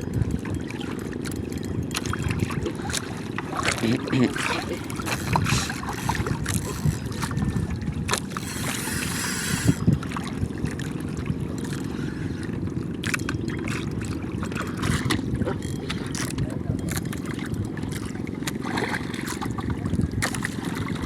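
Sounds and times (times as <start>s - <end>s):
wind and water rumble: 0.0s - 21.0s.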